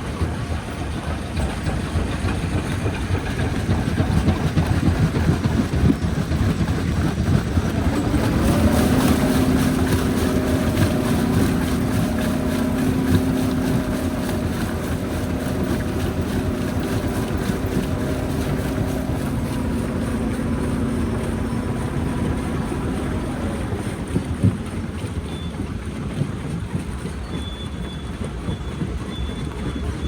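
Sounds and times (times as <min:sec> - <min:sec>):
rock crusher rumbling: 0:00.0 - 0:25.2
engine hum: 0:00.0 - 0:30.0.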